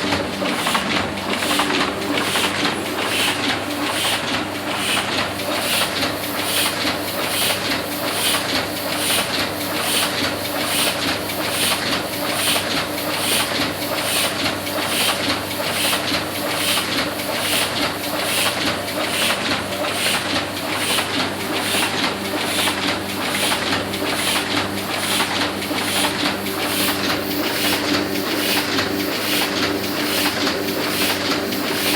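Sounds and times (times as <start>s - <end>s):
printing press hum: 0.0s - 31.9s
printing press mechanism beating: 0.0s - 31.9s.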